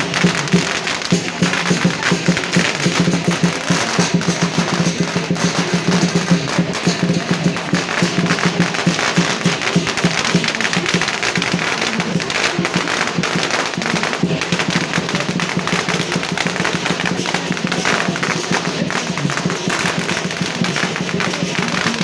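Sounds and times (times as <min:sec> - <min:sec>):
firecrackers crackling: 0:00.0 - 0:22.0
music: 0:00.0 - 0:22.0.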